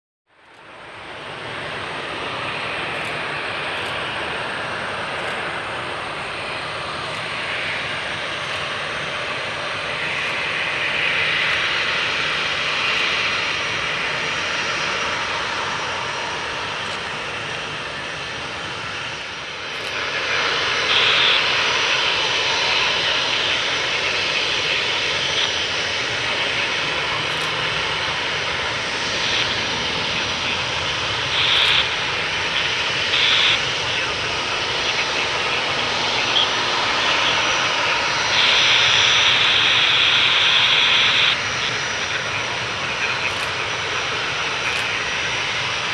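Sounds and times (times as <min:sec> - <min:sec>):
jet engines rushing: 0:00.4 - 0:45.9.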